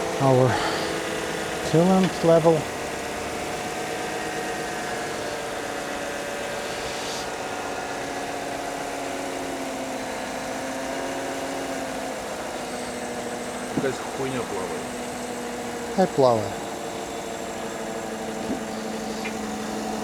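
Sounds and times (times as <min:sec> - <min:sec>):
pickup engine idling: 0:00.0 - 0:20.0.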